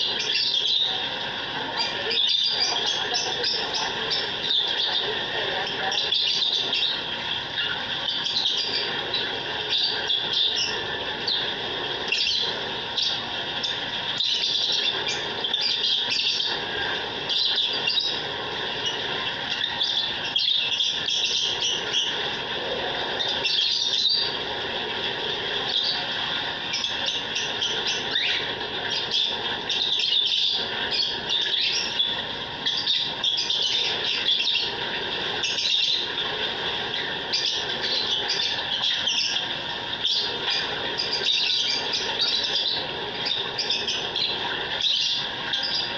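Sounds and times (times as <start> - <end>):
cage birds chirping and squawking: 0.0 - 45.9.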